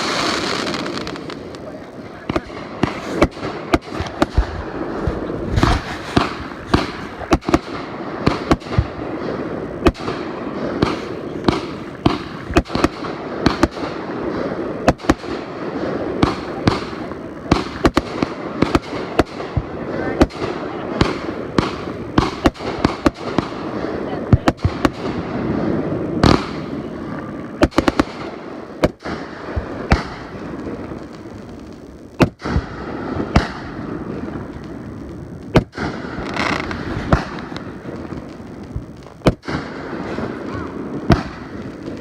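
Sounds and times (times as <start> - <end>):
fireworks bangs: 0.0 - 42.0
fireworks crackle and rumble: 0.0 - 42.0.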